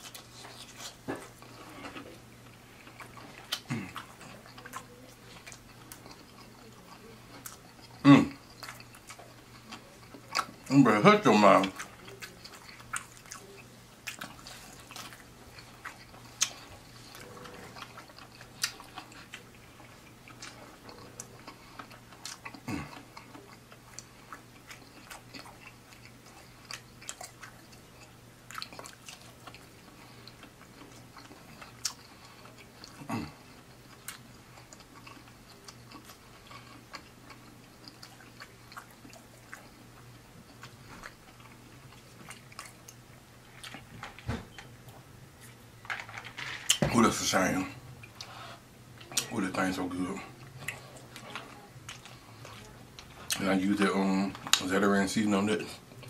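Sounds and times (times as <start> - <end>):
close-up chewing: 0.0 - 45.8, 46.7 - 54.8
faint low hum: 0.0 - 56.0.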